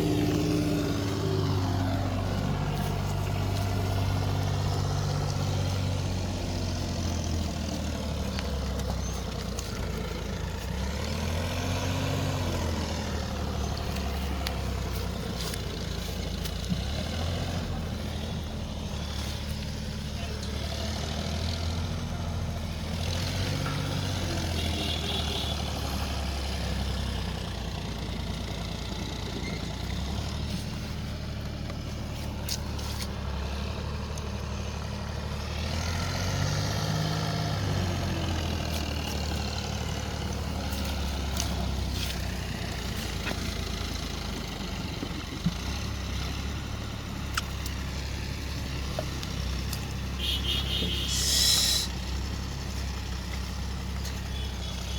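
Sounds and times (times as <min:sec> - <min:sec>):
engine running with low hum: 0:00.0 - 0:54.9.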